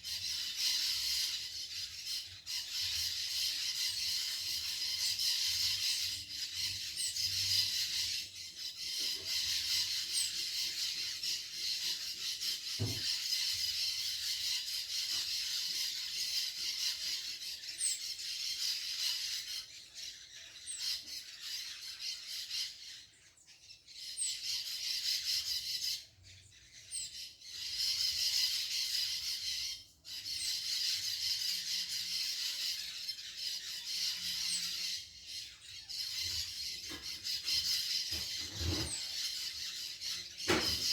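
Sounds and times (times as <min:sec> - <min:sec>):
high falling bird calls: 0:00.0 - 0:40.9
high-pitched bird chorus: 0:00.0 - 0:40.9.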